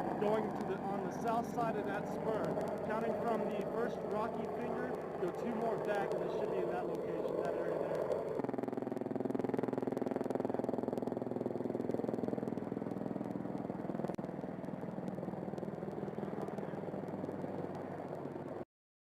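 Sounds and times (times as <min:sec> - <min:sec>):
helicopter engine and rotor drone: 0:00.0 - 0:18.6.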